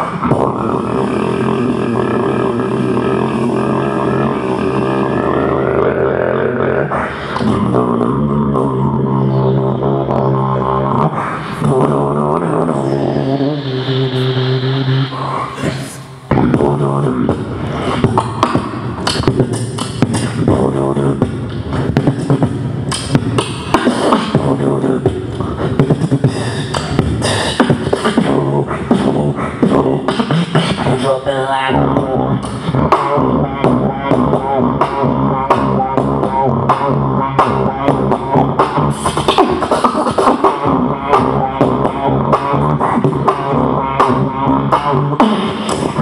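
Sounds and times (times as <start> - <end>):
person beatboxing into microphone: 0.0 - 46.0.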